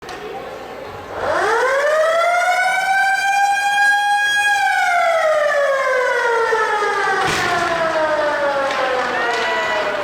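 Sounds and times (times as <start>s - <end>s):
siren wailing: 1.1s - 10.0s.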